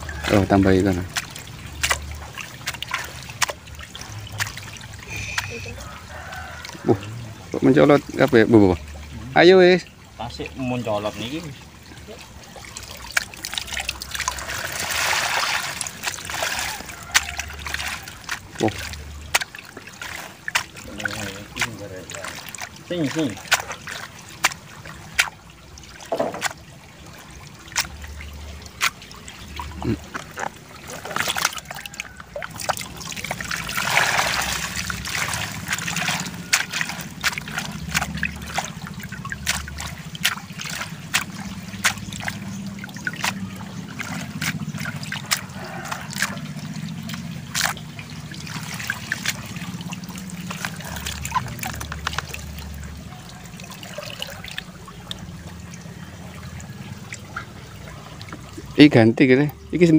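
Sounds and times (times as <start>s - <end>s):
rush of water: 0.0s - 59.9s
water trickling and splashing: 0.0s - 59.9s.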